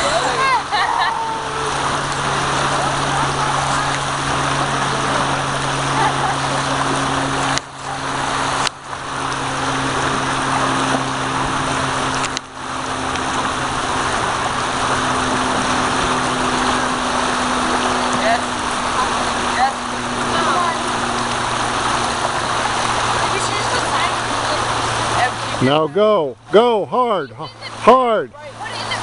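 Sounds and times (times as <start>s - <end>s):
low hum: 0.0s - 29.0s
water rushing through inlet: 0.0s - 29.0s.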